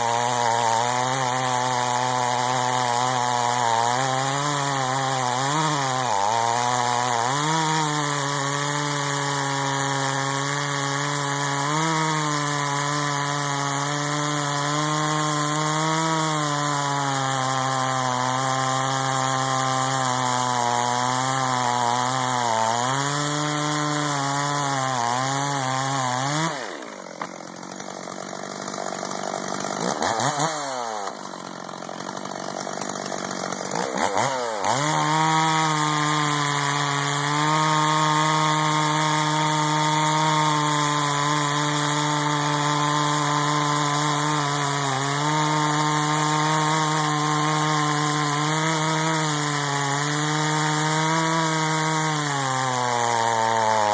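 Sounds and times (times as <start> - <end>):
chainsaw cutting log: 0.0 - 53.9.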